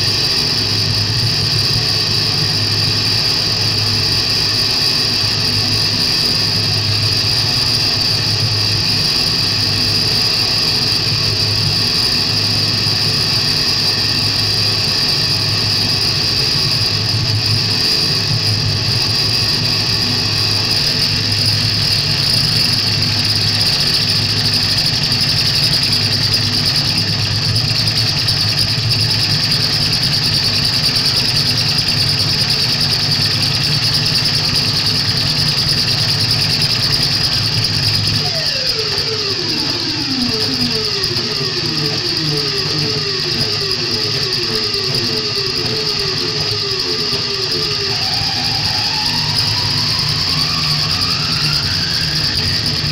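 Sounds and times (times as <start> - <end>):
low hum: 0.0 - 52.9
piercing high whine: 0.0 - 52.9.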